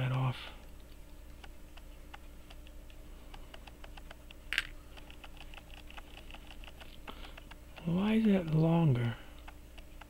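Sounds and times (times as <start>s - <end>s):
watch ticking: 1.3s - 10.0s.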